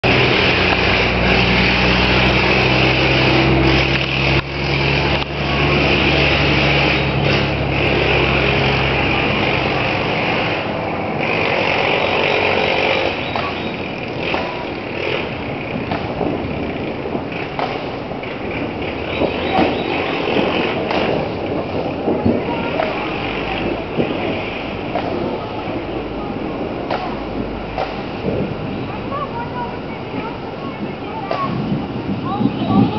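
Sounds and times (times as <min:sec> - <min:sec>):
loud rushing hiss: 0:00.0 - 0:32.9
vehicle engine humming: 0:00.0 - 0:32.9.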